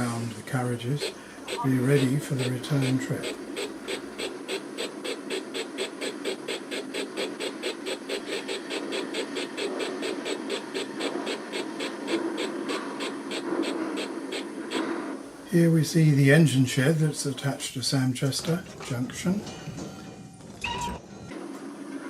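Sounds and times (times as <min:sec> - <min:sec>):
model steam locomotive chuffing: 0:00.0 - 0:19.5.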